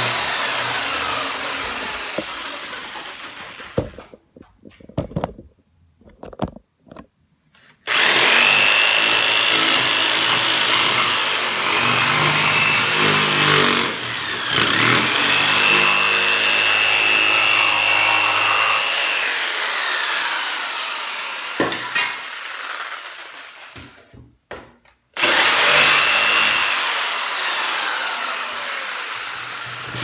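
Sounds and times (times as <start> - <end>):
jigsaw cutting plywood: 0.0 - 4.2, 7.8 - 24.2, 25.2 - 30.0.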